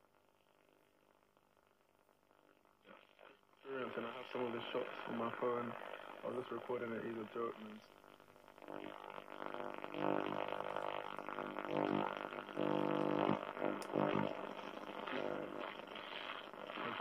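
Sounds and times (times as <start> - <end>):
radio interference droning buzz: 0.0 - 17.0.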